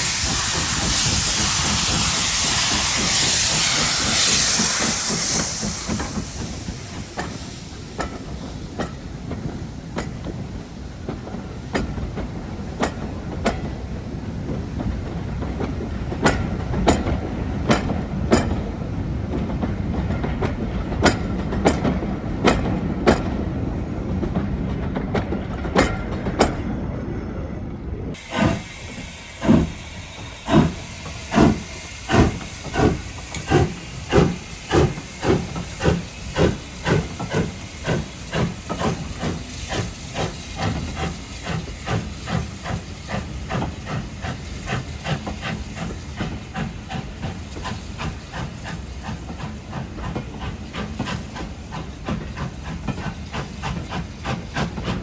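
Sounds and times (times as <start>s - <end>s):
steam hissing: 0.0s - 19.3s, 28.1s - 55.0s
steam locomotive exhaust chuffs: 0.0s - 26.6s, 28.2s - 55.0s
low train rumble: 0.0s - 55.0s.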